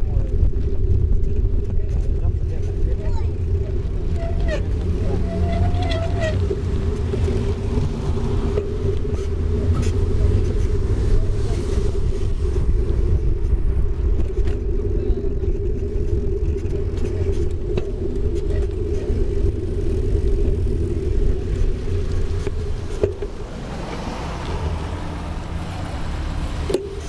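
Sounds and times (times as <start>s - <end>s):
wind on microphone: 0.0s - 26.8s
bicycle tyres rumbling on asphalt: 0.0s - 27.0s.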